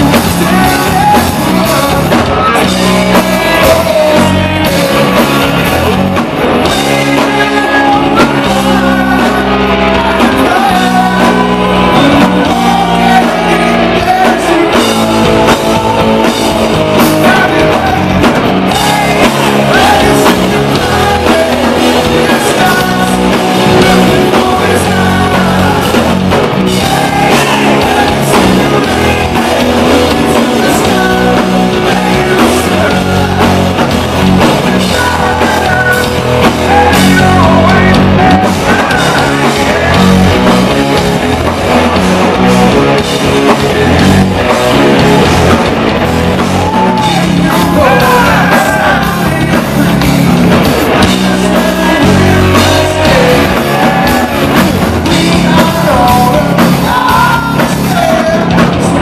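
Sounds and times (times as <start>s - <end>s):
lead vocal singing: 0.0s - 59.0s
rock band playing live: 0.0s - 59.0s.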